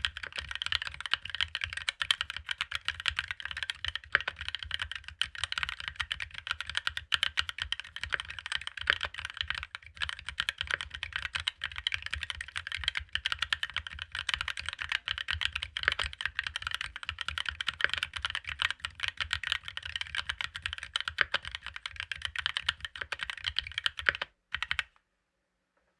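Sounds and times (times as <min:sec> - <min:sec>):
typing on mechanical keyboard: 0:00.0 - 0:25.0.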